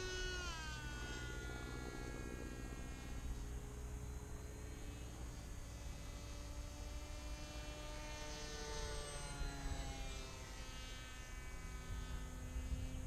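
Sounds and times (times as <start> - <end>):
model plane motor whining overhead: 0.0 - 13.0.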